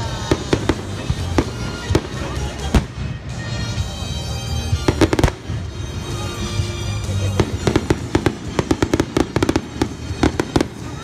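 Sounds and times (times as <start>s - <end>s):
fireworks cracking and banging: 0.0s - 3.8s, 4.6s - 11.0s.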